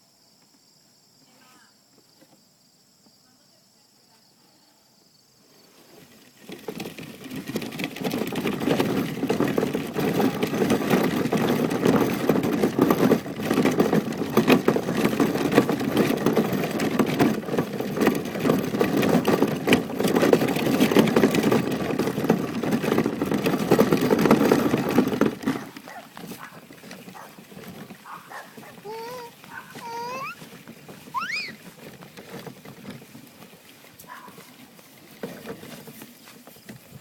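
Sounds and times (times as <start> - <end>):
toy car rattling over rough ground: 5.9 - 37.0.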